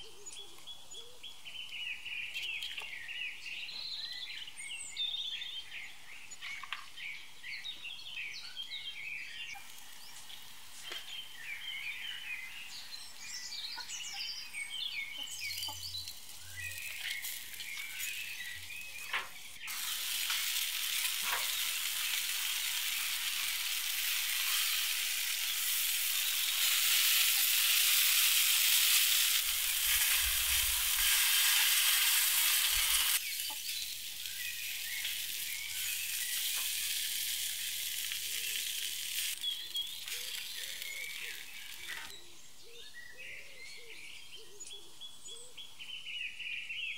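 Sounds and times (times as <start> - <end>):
birds singing: 0.0 - 46.9
peppers sizzling on a grill: 3.8 - 42.2.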